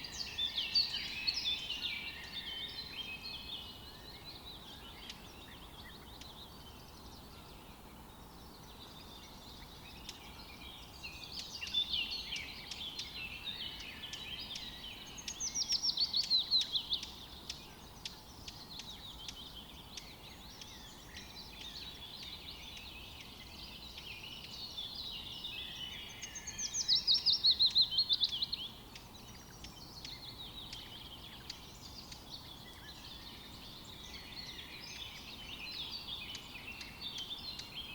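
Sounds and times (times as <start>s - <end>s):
songbirds chirping and twittering: 0.0s - 37.9s.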